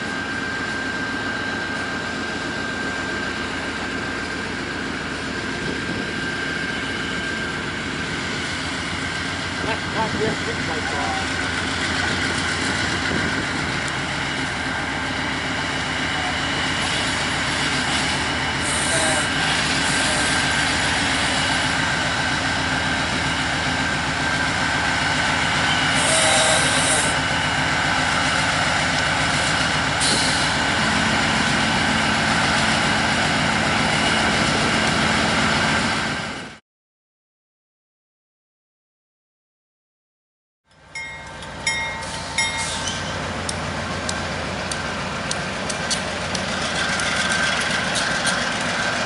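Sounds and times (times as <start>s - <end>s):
diesel locomotive engines running: 0.0s - 36.6s, 40.7s - 49.0s.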